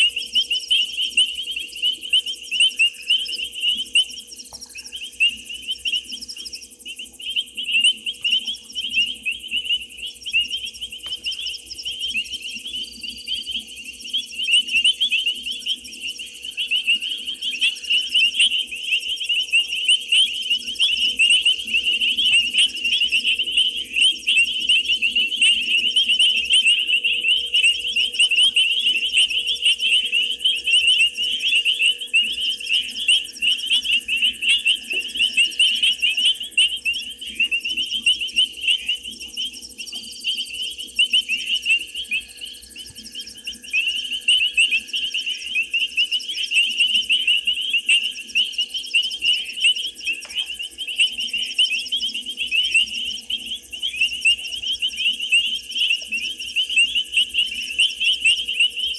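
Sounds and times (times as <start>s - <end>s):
faint steady hum: 0.0s - 58.9s
frogs calling: 0.0s - 58.9s
insects chirring: 0.0s - 58.9s.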